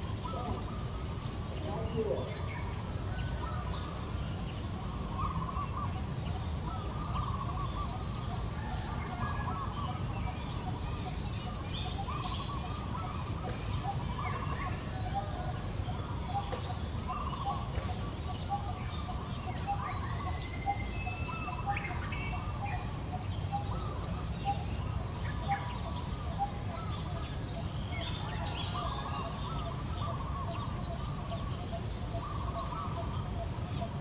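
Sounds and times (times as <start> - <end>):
birds chirping and twittering: 0.0 - 34.0.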